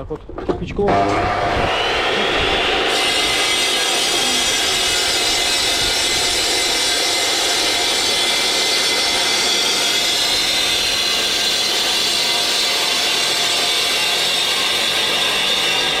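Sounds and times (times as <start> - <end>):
mitre saw cutting brick: 0.9 - 16.0.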